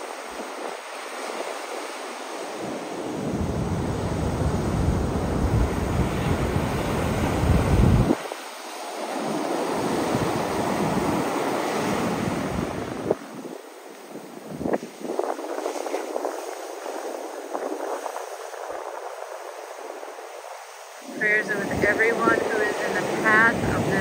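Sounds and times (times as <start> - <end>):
heavy surf breaking: 0.0 - 24.0
wind buffeting microphone: 0.0 - 24.0.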